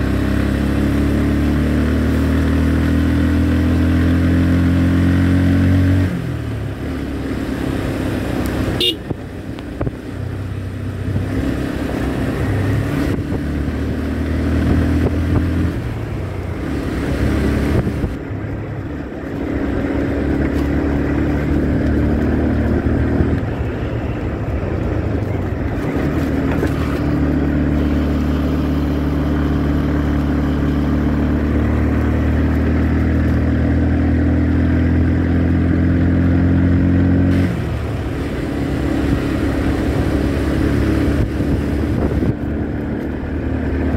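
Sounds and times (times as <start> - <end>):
motorcycle engine running: 0.0 - 37.1, 37.7 - 43.9.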